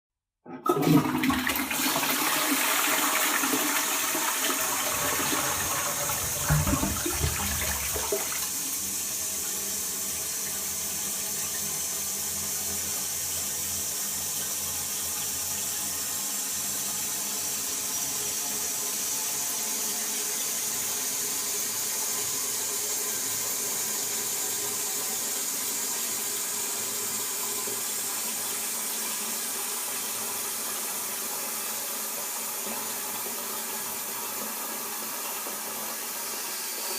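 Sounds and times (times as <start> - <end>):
toilet flushing: 0.5 - 36.9.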